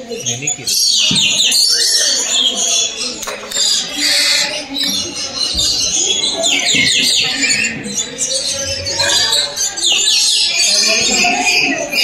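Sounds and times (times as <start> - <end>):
parrots screeching and chattering: 0.0 - 12.0.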